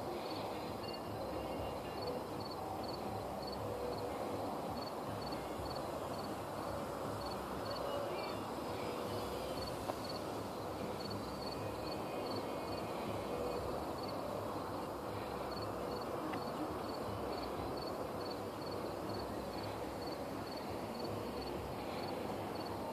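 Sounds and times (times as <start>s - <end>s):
faint low hoot-like tones: 0.0s - 22.9s
insect chirping: 0.0s - 22.9s
open-air ambience hiss: 0.0s - 22.9s.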